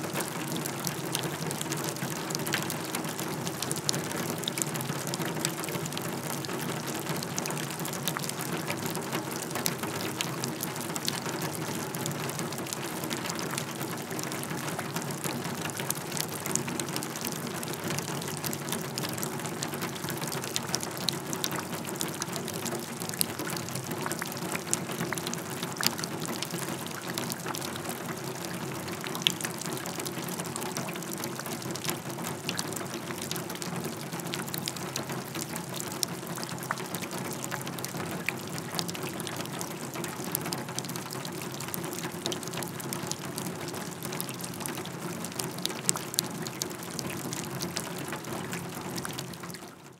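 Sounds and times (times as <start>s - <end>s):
rain pattering on a wheelbarrow: 0.0s - 49.9s.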